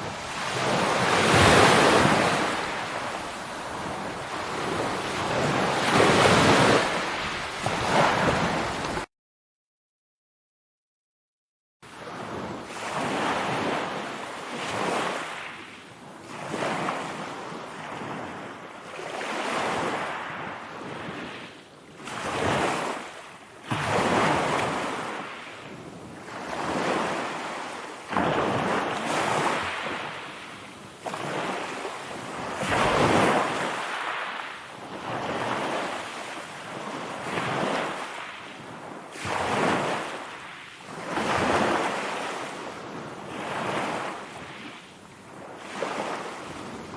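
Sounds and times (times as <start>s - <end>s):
waves breaking: 0.0s - 9.1s, 11.9s - 46.9s.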